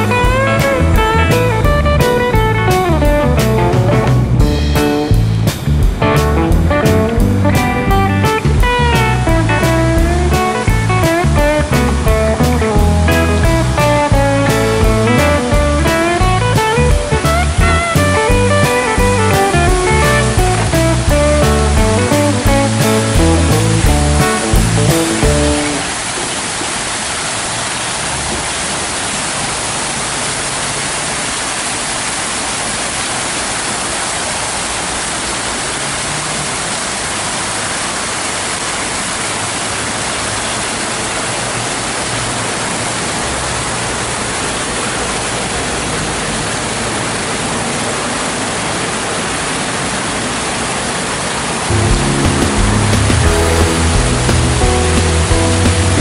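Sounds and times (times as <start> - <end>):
fountain jets splashing: 0.0 - 56.0.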